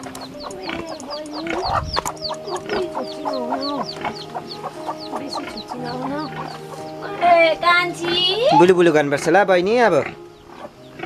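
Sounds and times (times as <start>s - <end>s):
high falling peeps: 0.0s - 9.0s
chickens clucking: 0.0s - 11.0s.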